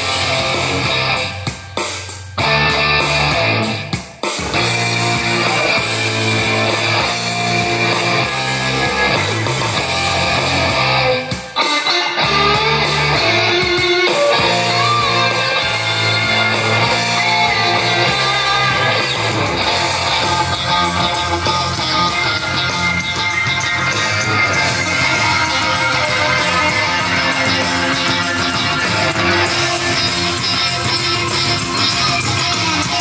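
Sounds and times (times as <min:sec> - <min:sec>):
rock song with electric guitar: 0:00.0 - 0:33.0.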